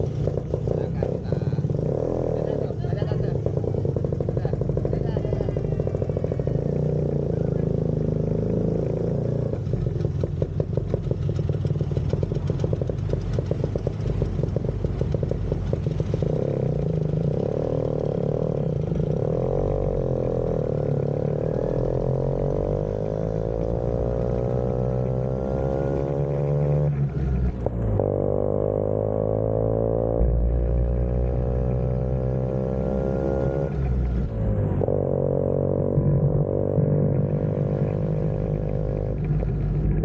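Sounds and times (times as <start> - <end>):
scooter engine revving: 0.0 - 40.0.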